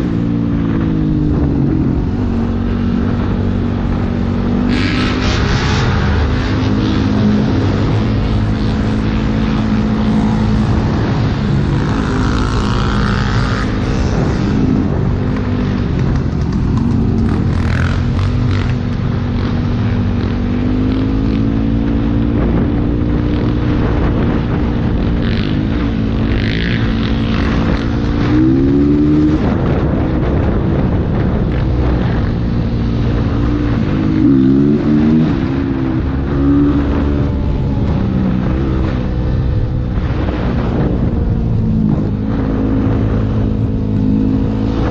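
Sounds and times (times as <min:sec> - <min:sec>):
motorcycle engine revving: 0:00.0 - 0:44.9
wind rumble on microphone: 0:00.0 - 0:44.9.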